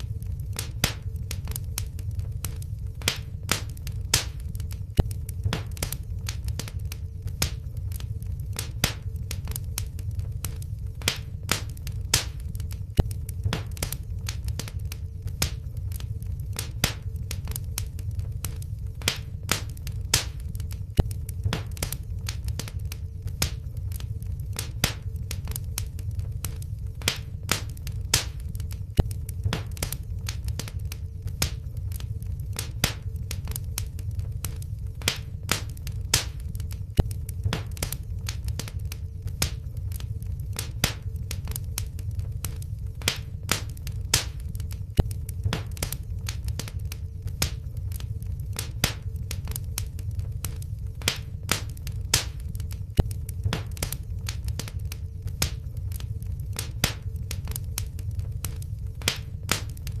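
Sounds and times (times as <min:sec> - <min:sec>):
faint steady hum: 0:00.0 - 1:00.0
wood fire crackling: 0:00.0 - 1:00.0.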